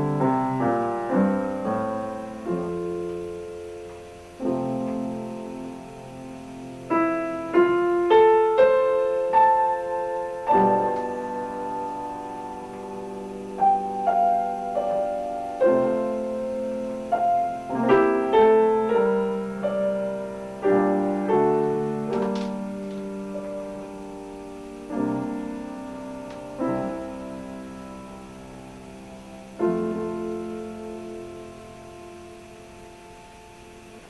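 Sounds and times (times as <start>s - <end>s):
slow piano piece: 0.0s - 34.0s.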